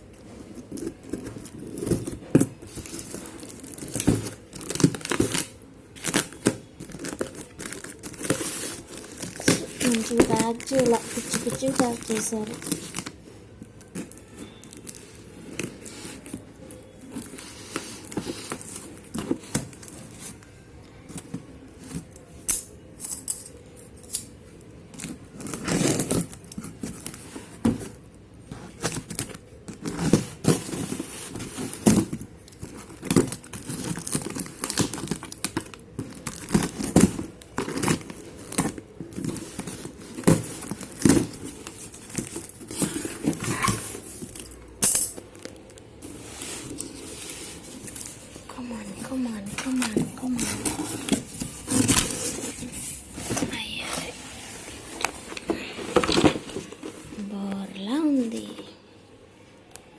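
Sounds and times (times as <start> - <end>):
packing material crinkling and tearing: 0.1 - 22.8, 23.5 - 57.3.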